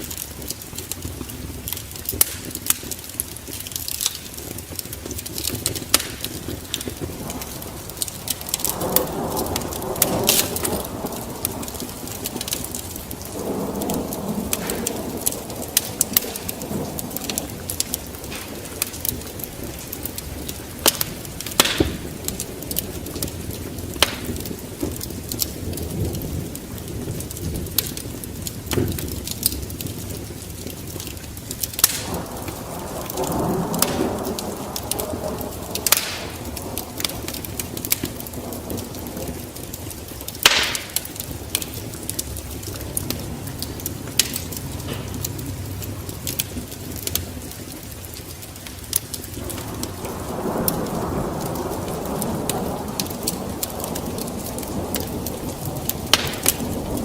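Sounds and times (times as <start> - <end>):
sharp fire pops: 0.0 - 57.0
steady rain: 0.0 - 57.0
thunder rumbling: 0.0 - 57.0
wood fire crackling: 0.0 - 57.0.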